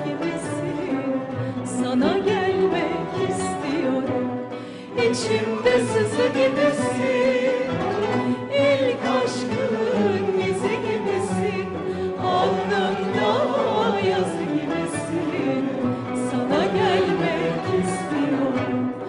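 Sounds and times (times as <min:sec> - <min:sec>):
sustained instrumental backing: 0:00.0 - 0:19.0.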